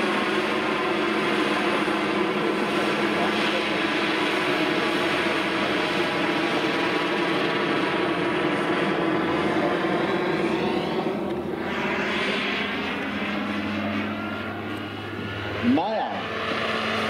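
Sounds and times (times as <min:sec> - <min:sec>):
model helicopter turbine and rotor: 0:00.0 - 0:17.0.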